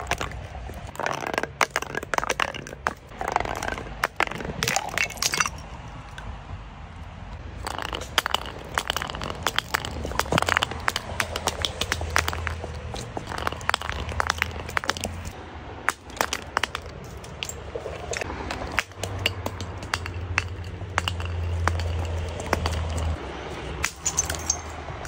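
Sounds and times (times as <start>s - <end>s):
glass bottle clinking down steps: 0.0s - 5.6s, 7.6s - 23.2s, 23.8s - 24.8s.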